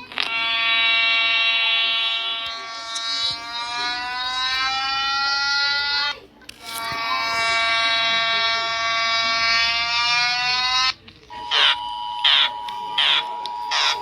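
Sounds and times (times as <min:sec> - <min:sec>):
steady high alert tone: 0:00.0 - 0:14.0
buzzy alert tone: 0:00.2 - 0:14.0.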